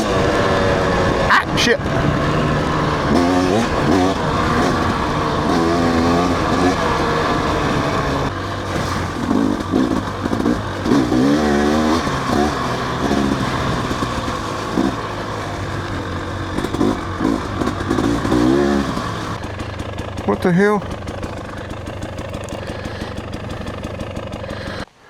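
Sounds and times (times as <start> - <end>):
clattering over rough ground: 0.0 - 24.9
dirt bike engine revving: 0.0 - 24.9.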